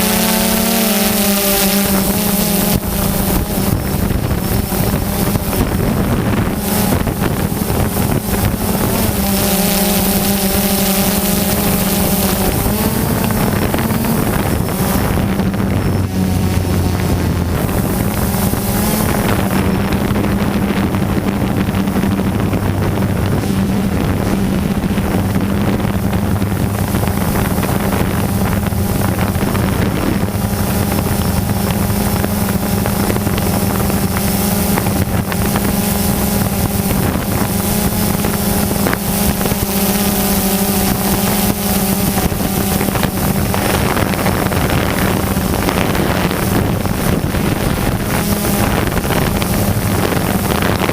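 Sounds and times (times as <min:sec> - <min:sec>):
drone propellers humming: 0:00.0 - 0:50.9
wind noise on microphone: 0:00.0 - 0:50.9.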